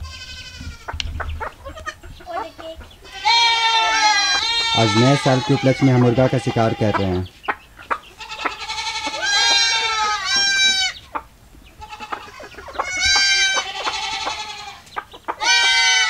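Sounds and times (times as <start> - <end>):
goats bleating: 0.0 - 7.3, 7.9 - 11.2, 11.8 - 16.0
chickens clucking: 0.0 - 16.0.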